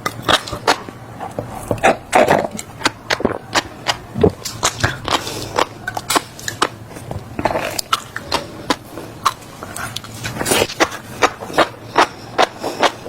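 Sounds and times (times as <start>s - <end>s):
seeds being chewed: 0.0s - 13.0s
wet mouth sounds: 0.0s - 13.0s.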